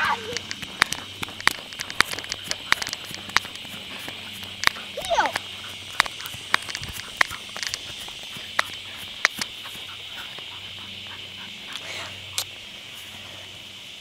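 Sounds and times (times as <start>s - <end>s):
high-pitched chorus of small animals: 0.0s - 14.0s
sharp clicks: 0.1s - 12.6s.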